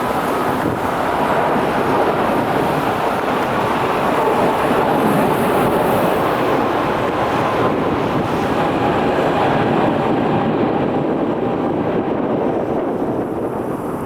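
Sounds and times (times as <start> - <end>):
jet airliner engines passing: 0.0 - 14.0.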